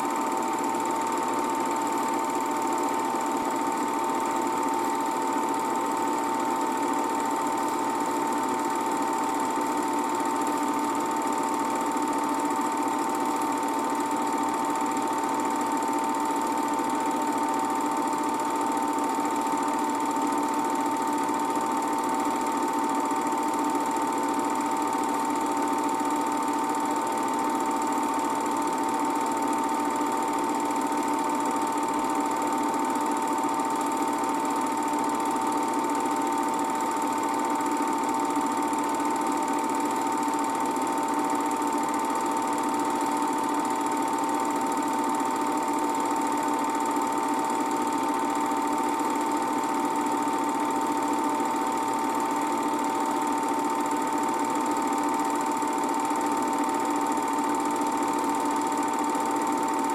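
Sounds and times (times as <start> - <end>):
film projector running: 0.0 - 59.9.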